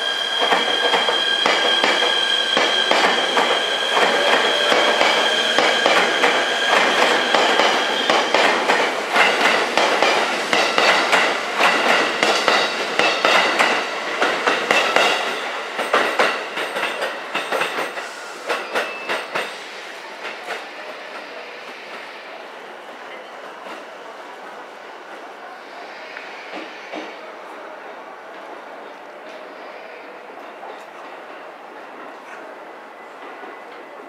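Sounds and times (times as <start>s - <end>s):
train wheels squealing: 0.0s - 24.6s, 25.2s - 27.7s, 28.8s - 34.0s.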